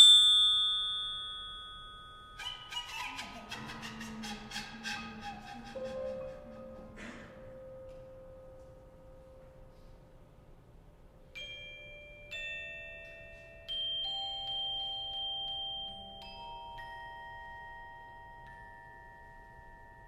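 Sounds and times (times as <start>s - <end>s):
metal mallet percussion notes: 0.0s - 8.8s, 11.3s - 20.0s.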